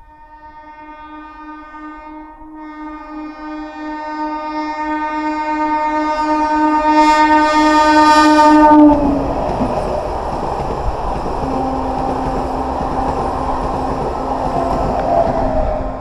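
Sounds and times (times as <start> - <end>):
train horn: 0.0 - 10.1, 11.2 - 16.0
train coaches rumbling past: 2.6 - 16.0.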